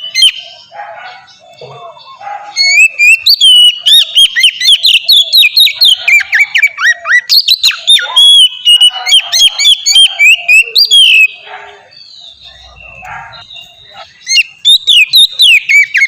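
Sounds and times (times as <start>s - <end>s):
songbird whistling song: 0.0s - 16.0s.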